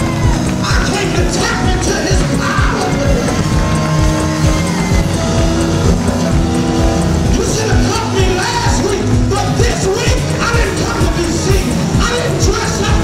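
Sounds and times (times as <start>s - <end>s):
rock music with steady beat: 0.0s - 13.0s.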